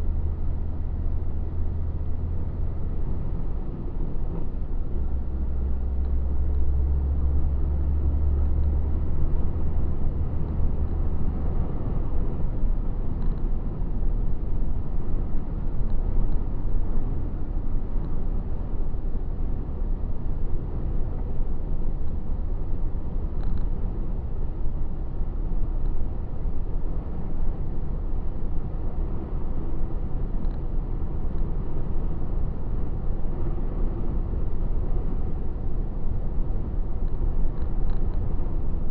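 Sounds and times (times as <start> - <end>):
road noise: 0.0 - 38.9.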